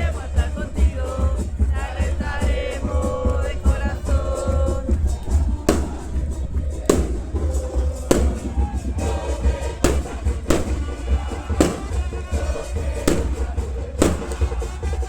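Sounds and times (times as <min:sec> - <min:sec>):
steady low rumble: 0:00.0 - 0:14.5
music with heavy drum strikes: 0:00.0 - 0:15.0.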